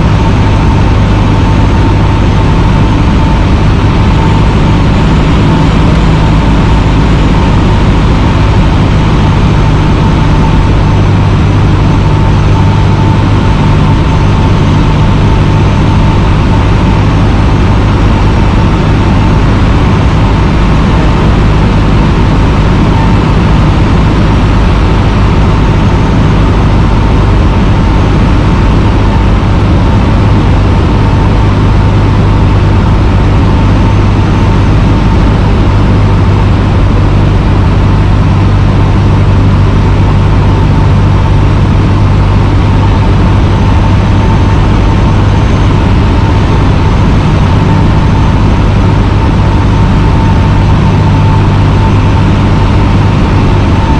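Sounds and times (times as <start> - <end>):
airplane engine and propeller droning: 0.0 - 53.9.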